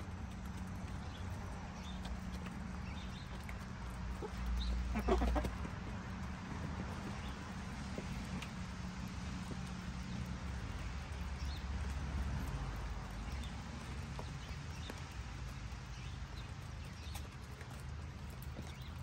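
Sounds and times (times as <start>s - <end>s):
chickens pecking taps: 0.0s - 19.0s.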